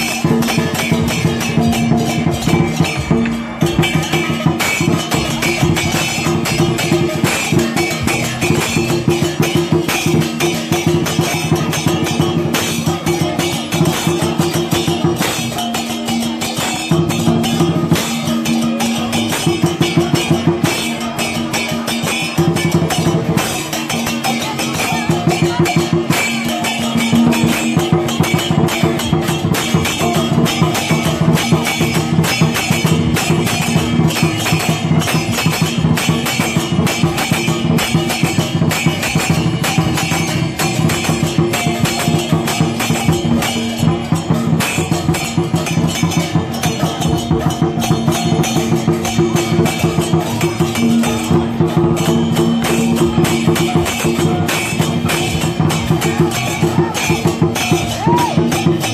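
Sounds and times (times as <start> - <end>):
percussion band playing: 0.0 - 58.9.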